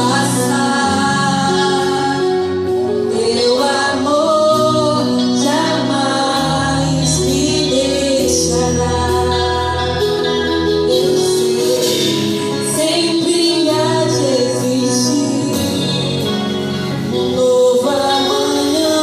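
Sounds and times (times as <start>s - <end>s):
live band with drums and bass: 0.0s - 19.0s
woman singing: 0.0s - 19.0s.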